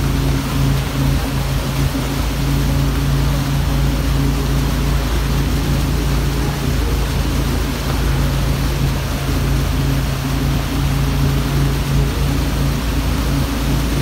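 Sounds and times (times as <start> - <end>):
boat engine humming: 0.0 - 14.0
churning wake water: 0.0 - 14.0
wind: 0.0 - 14.0.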